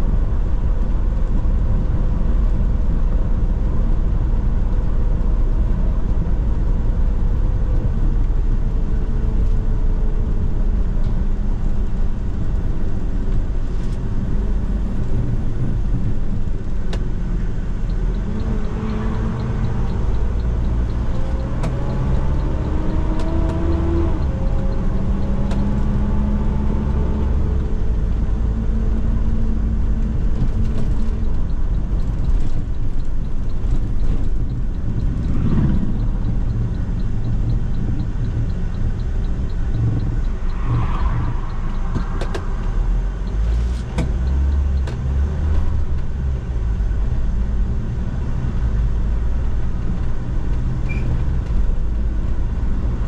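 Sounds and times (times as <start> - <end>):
bus engine rumble: 0.0 - 53.0.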